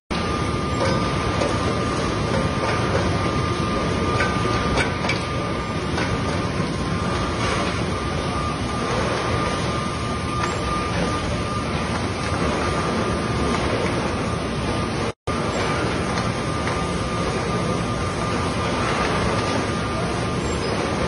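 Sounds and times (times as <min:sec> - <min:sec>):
conveyor machinery running: 0:00.1 - 0:21.0
high mechanical whine: 0:00.1 - 0:21.0.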